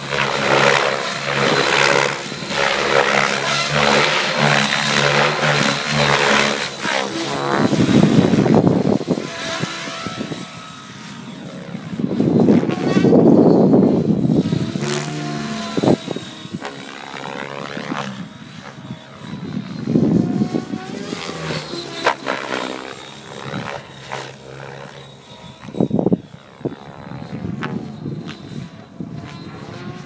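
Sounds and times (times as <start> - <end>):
helicopter passing: 0.0 - 30.0.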